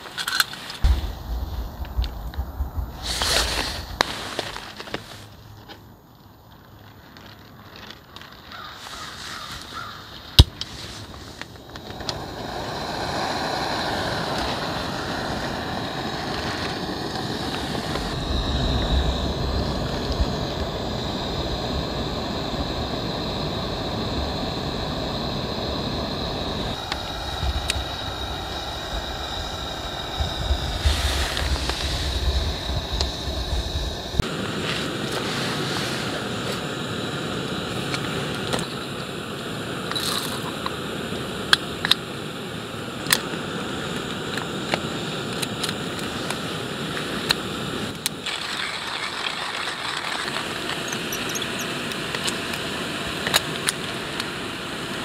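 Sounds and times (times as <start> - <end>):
gas burner hissing: 0.0 - 6.8, 8.2 - 55.0.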